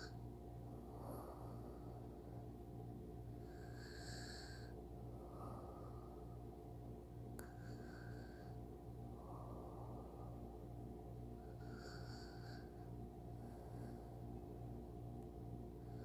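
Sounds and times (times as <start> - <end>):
person breathing and snoring: 0.0 - 2.5, 3.3 - 6.5, 7.4 - 14.4, 15.8 - 16.0
steady low hum: 0.0 - 16.0.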